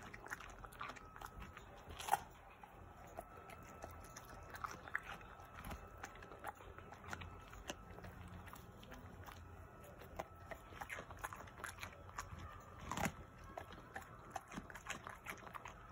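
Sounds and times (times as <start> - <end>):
dog crunching cucumber: 0.0 - 15.9.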